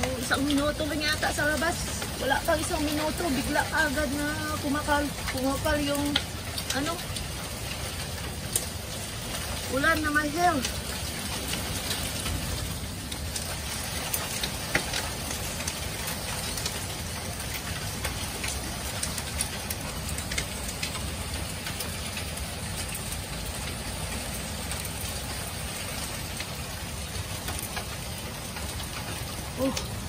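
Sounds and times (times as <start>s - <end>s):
hailstones clicking: 0.0s - 30.0s
heavy rain on wooden deck: 0.0s - 30.0s.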